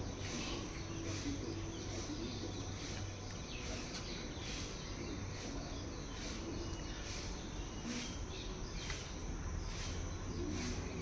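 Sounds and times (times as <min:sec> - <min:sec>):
faint bird chirps: 0:00.0 - 0:11.0
outdoor background noise: 0:00.0 - 0:11.0.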